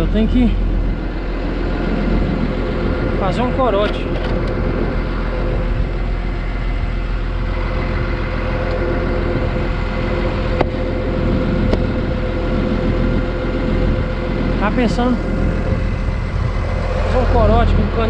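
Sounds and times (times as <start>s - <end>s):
diesel engine running steadily: 0.0s - 18.0s.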